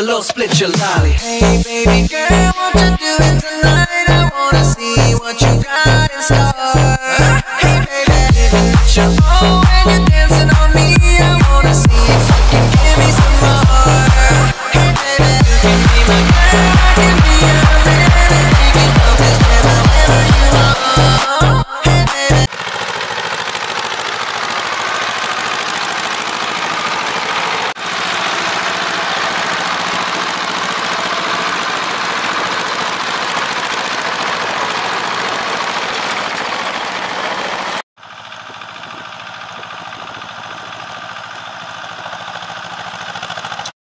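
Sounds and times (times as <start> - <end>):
tractor diesel engine running: 0.0 - 43.7.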